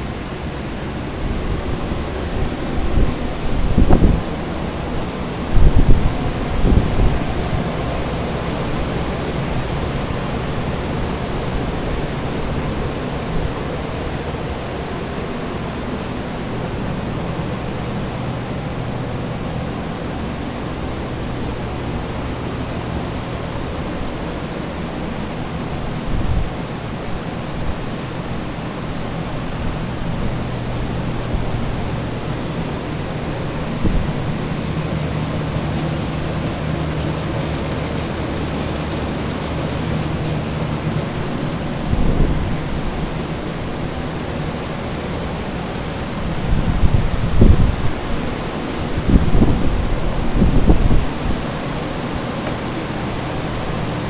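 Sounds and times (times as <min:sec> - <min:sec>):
low motor hum: 0:00.0 - 0:45.4
rushing fan noise: 0:00.0 - 0:54.0.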